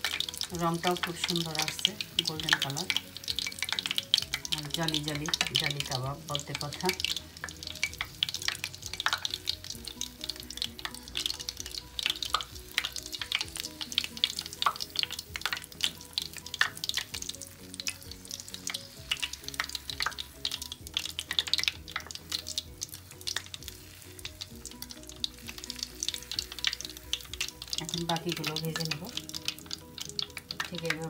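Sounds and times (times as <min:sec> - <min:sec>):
meat sizzling in hot oil: 0:00.0 - 0:31.0
soft background music: 0:00.0 - 0:31.0.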